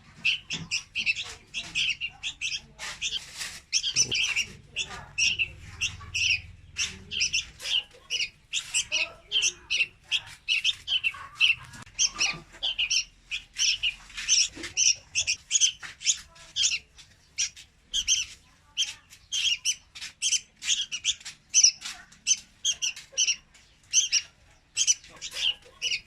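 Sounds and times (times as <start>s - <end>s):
birds chirping rapidly: 0.0s - 26.0s.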